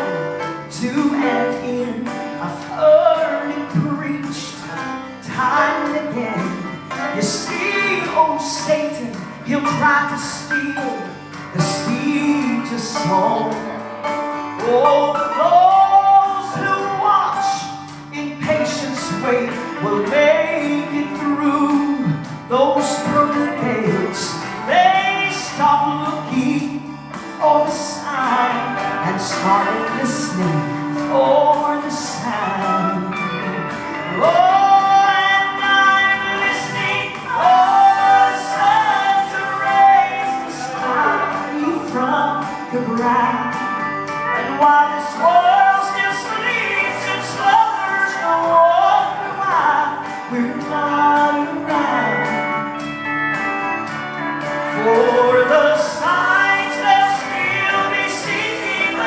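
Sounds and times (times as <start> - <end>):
gospel singing with backing music: 0.0 - 59.0.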